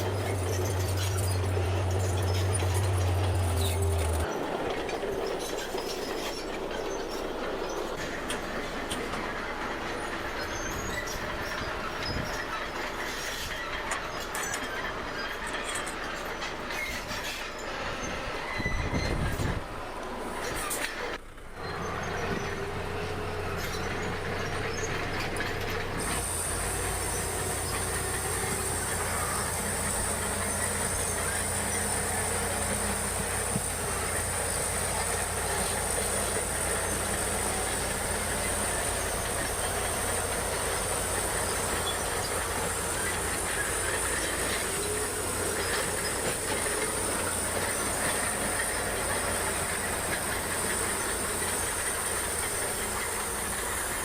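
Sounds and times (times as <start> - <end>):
diesel engine running: 0.0 - 54.0
steel tracks clattering: 0.0 - 54.0.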